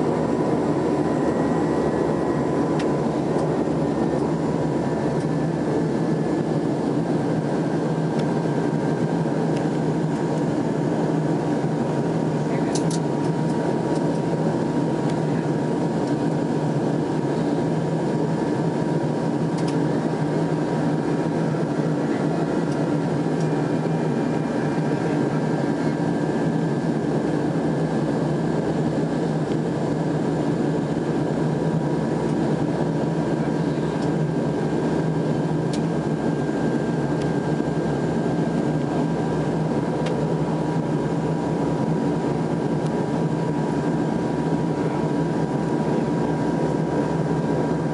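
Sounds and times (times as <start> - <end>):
aircraft engine drone: 0.0 - 47.9.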